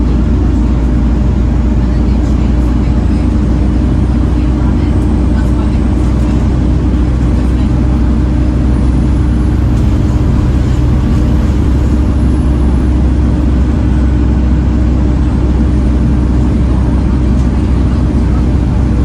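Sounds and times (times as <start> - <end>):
bus engine droning: 0.0 - 19.0.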